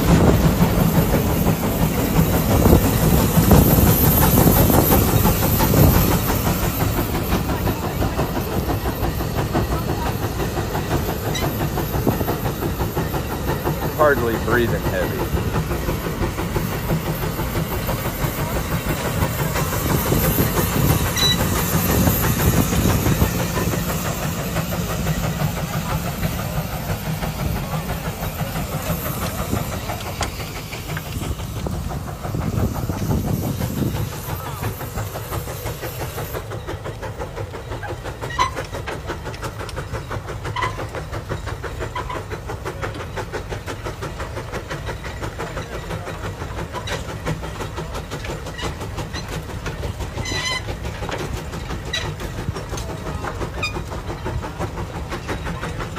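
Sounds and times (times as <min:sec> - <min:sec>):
steam engine rumble and hiss: 0:00.0 - 0:55.9.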